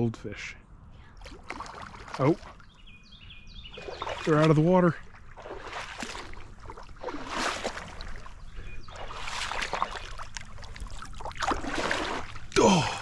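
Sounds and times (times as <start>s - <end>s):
water splashing and trickling: 1.1s - 2.8s, 3.6s - 13.0s.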